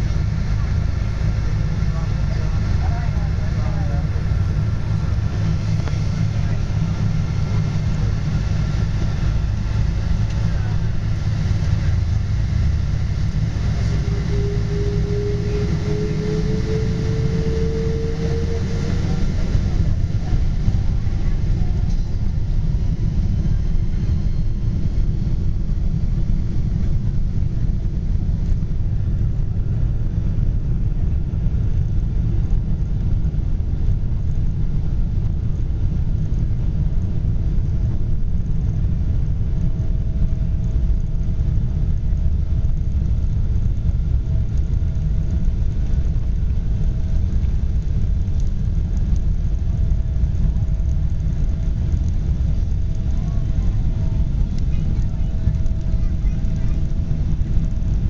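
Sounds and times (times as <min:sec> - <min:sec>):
airliner low rumble: 0:00.0 - 0:58.0.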